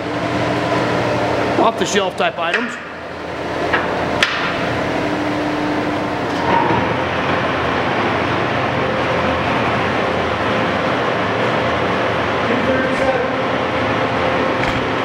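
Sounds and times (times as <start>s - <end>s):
lathe whirring: 0.0s - 15.0s.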